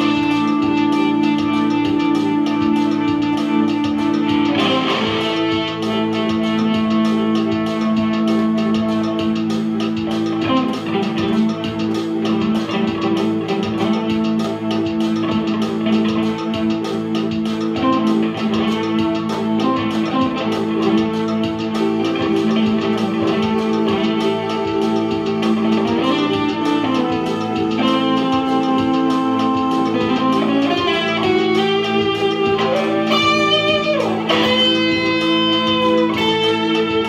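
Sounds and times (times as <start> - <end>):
electronic keyboard held chords: 0.0 - 37.0
strummed electric guitar: 0.0 - 37.0.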